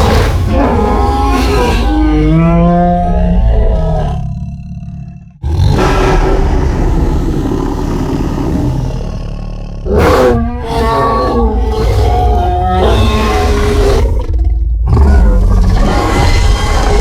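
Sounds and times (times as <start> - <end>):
deep monster roar: 0.0 - 17.0.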